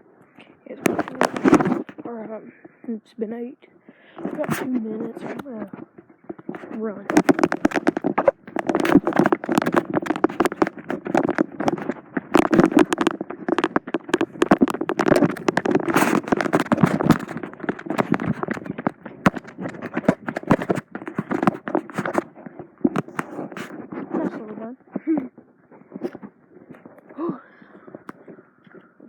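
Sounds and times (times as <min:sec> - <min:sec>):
phone rubbing in hand: 0:00.8 - 0:02.3, 0:04.2 - 0:29.0
running footsteps: 0:04.0 - 0:29.0.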